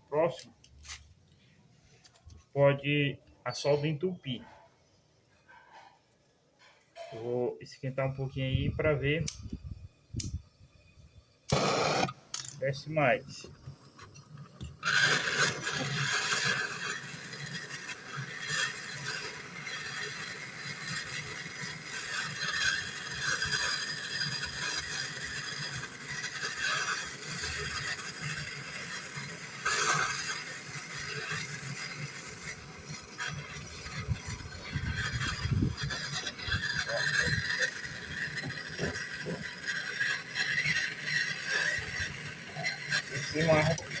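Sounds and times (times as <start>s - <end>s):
torch flame hissing: 0.0s - 4.7s, 7.0s - 44.0s.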